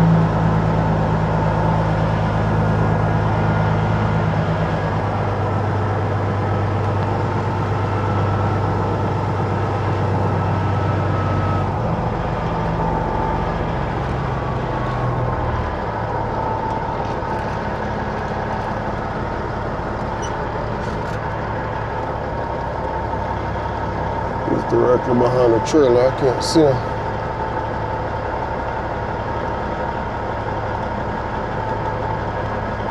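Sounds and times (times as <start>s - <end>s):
truck diesel engine running: 0.0s - 32.9s.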